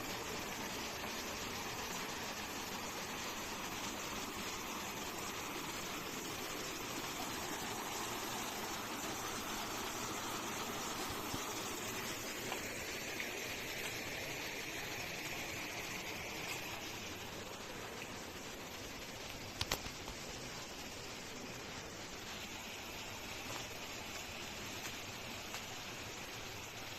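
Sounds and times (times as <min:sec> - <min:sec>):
stream flowing water: 0:00.0 - 0:26.9.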